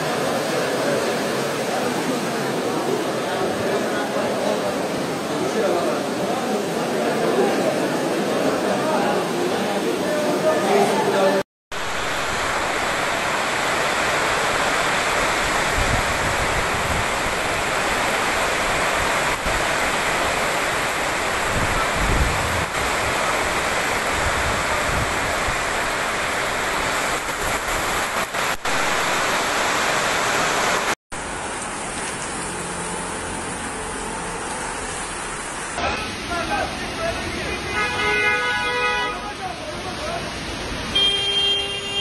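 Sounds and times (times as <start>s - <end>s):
torrential rain on pavement and cars: 0.0s - 42.0s.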